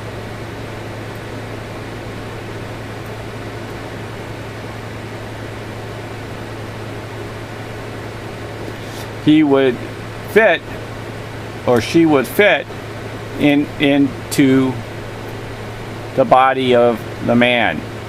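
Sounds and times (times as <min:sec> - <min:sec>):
constant even hiss: 0:00.0 - 0:18.0
low hum: 0:00.0 - 0:18.0.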